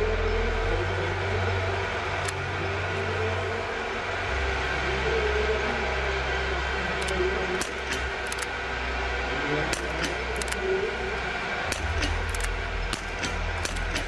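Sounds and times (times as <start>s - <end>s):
steady background din: 0.0s - 14.0s.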